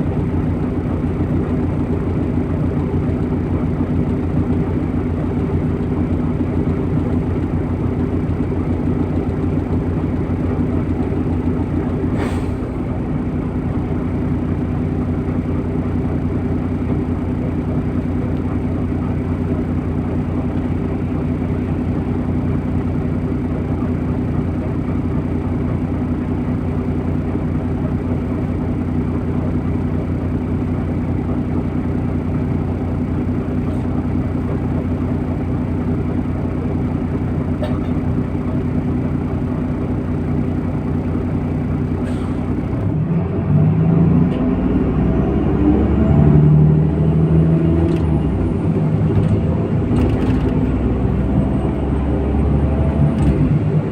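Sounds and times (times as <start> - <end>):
bus engine running: 0.0 - 53.9.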